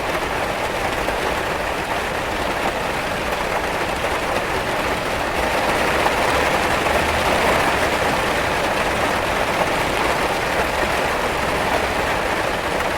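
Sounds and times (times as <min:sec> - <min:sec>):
rain falling and tapping: 0:00.0 - 0:12.9.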